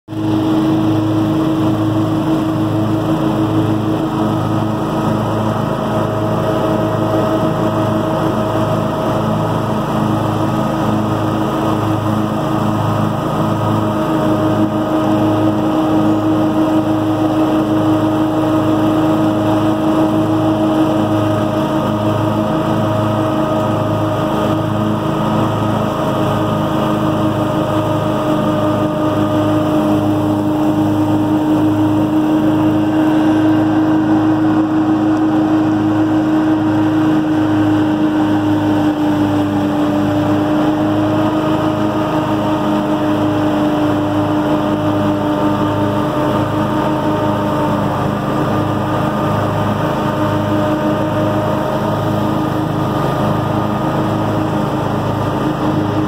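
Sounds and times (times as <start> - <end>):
riding mower engine whining: 0.1 - 56.0.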